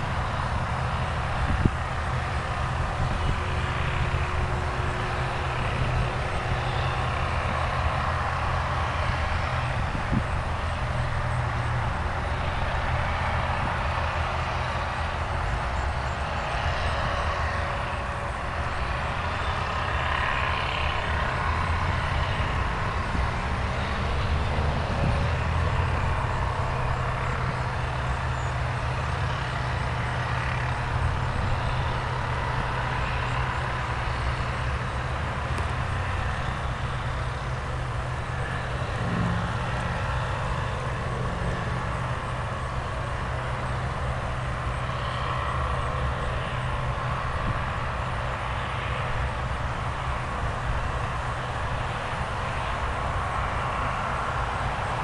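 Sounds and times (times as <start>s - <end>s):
engine hum: 0.0s - 55.0s
road traffic rumble: 0.0s - 55.0s.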